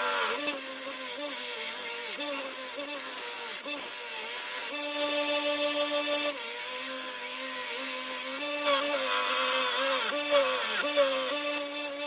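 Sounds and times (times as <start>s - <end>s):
grinder motor hum: 0.0s - 12.0s.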